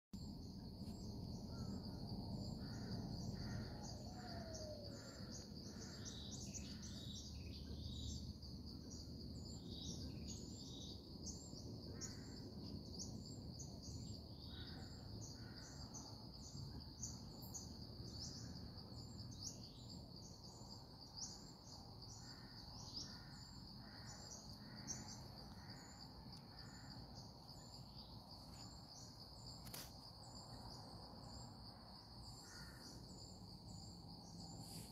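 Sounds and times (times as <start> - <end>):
rapid insect chirps: 0.2 - 34.9.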